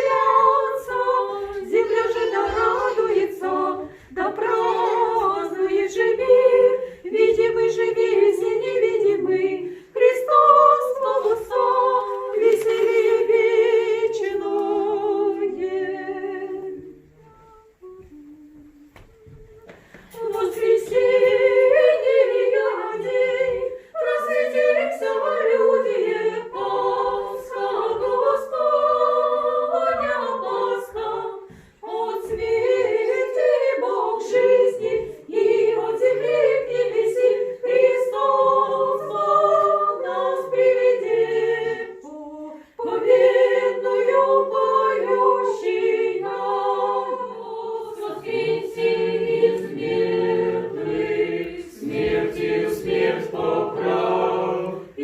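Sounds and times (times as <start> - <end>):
church choir singing unaccompanied: 0.0 - 55.0.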